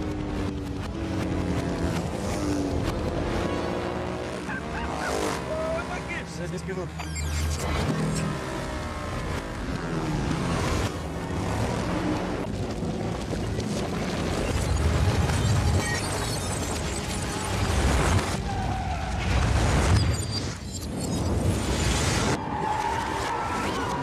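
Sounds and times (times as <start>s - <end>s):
reversed car engine noise: 0.0s - 24.0s.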